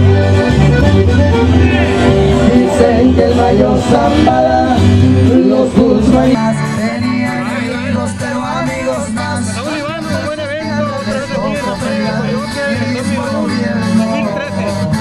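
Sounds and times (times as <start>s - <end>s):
accordion: 0.0s - 15.0s
acoustic guitar: 0.0s - 15.0s
bass line: 0.0s - 15.0s.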